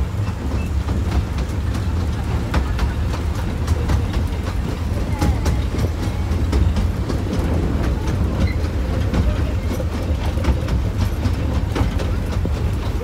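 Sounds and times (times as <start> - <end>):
train rumble: 0.0 - 13.0
wheels clicking on rails: 0.0 - 13.0.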